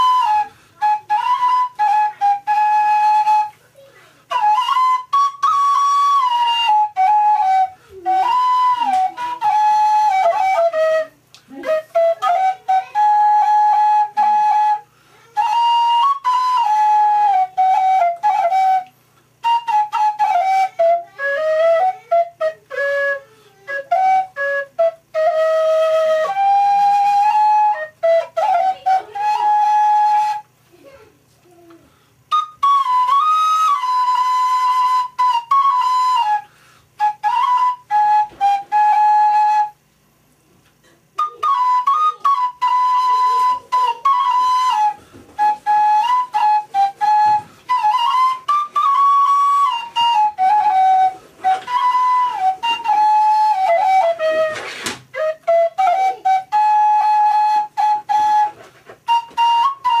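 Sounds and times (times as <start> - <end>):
solo flute melody: 0.0 - 60.0.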